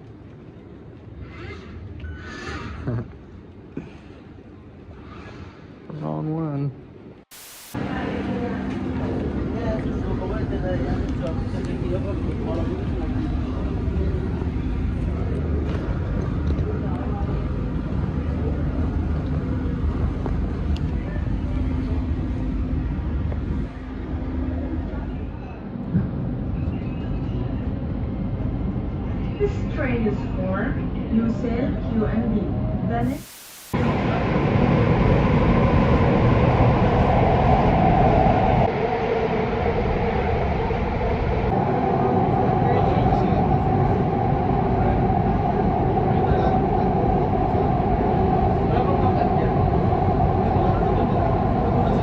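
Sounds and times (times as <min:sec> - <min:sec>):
constant hum: 0:06.9 - 0:52.0
metro train rumbling: 0:07.3 - 0:52.0.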